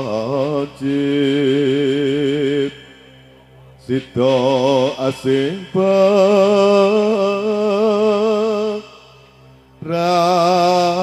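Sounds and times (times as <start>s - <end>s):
person singing long wavering notes: 0.0s - 11.0s.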